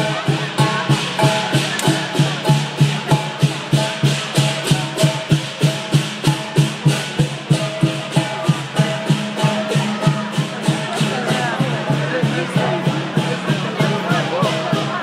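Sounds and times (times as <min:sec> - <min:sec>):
cymbals clashing: 0:00.0 - 0:15.0
drum beating: 0:00.0 - 0:15.0.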